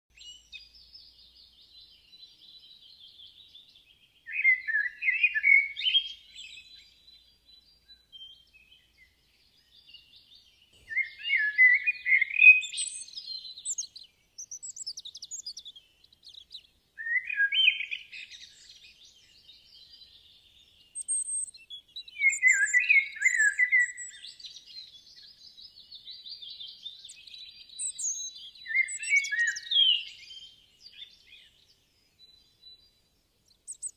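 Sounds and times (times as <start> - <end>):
bird singing song phrase: 0.1 - 33.9
faint birds twittering: 0.1 - 33.9.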